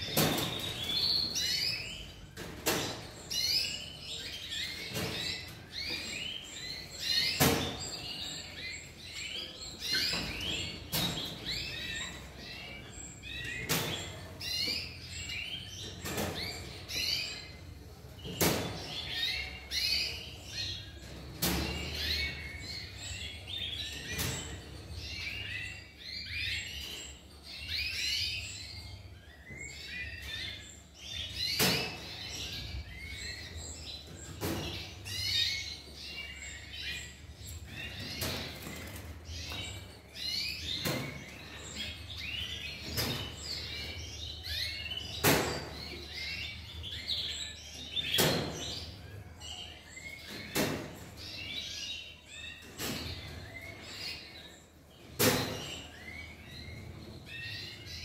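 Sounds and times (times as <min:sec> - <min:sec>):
canaries chirping: 0:00.0 - 0:58.0.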